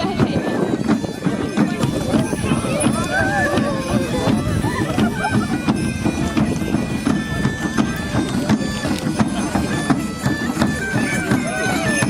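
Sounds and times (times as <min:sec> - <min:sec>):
bagpipes playing a tune: 0:00.0 - 0:12.0
crowd murmuring: 0:00.0 - 0:12.0.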